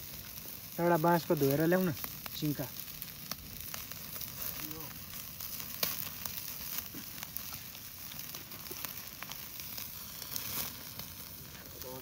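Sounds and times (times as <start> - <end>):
chicken sizzling on grill: 0.0 - 12.0
wood fire crackling and popping: 0.0 - 12.0.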